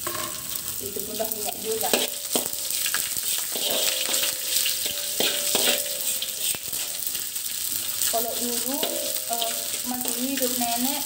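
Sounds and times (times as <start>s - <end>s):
anchovies sizzling in hot oil: 0.0s - 11.0s
metal spatula scraping a wok: 1.2s - 11.0s.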